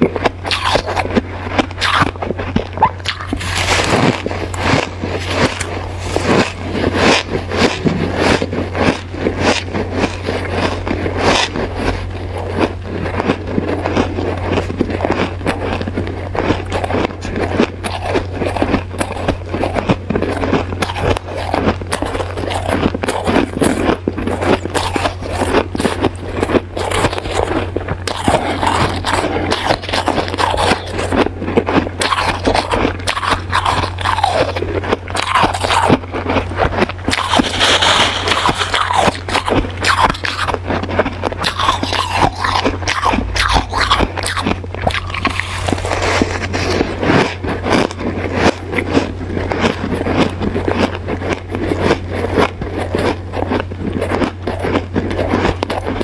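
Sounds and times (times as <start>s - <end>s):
ice being chewed: 0.0s - 56.0s
steady low hum: 0.0s - 56.0s.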